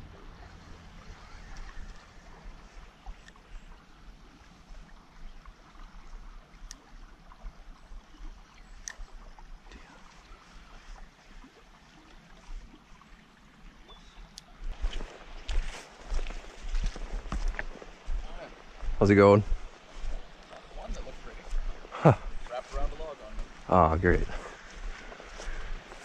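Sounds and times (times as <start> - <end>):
creek water flowing: 0.0 - 26.0.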